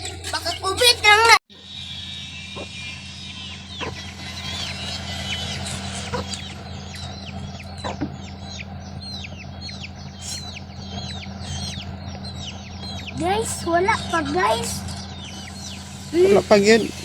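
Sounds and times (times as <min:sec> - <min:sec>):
chickens peeping: 0:00.0 - 0:17.0
constant low hum: 0:00.0 - 0:17.0.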